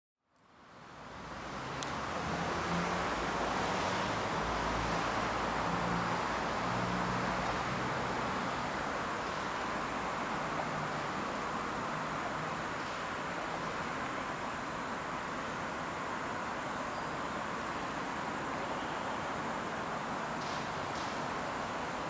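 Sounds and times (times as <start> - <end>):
distant road traffic: 0.3 - 22.0.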